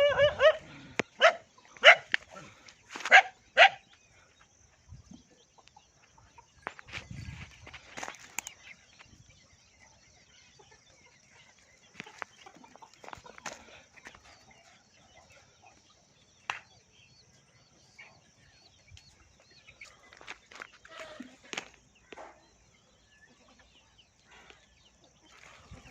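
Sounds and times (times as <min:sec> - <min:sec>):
chickens clucking: 0:00.0 - 0:25.9.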